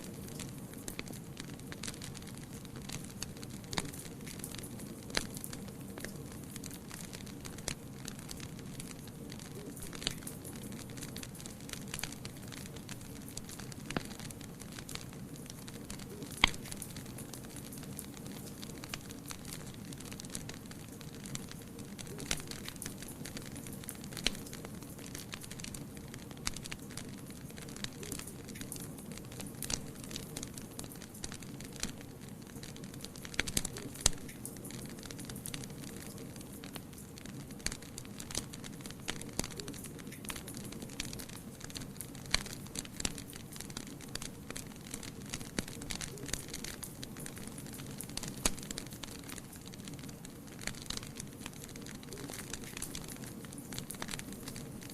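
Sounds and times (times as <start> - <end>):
wood fire burning: 0.0 - 54.9.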